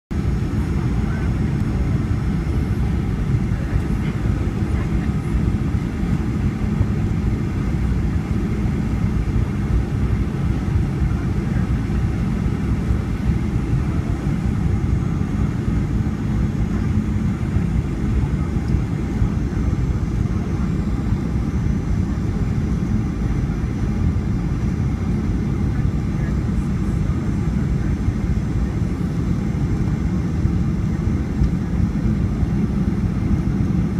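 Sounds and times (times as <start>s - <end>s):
aircraft cabin engine and airflow noise: 0.1s - 33.9s.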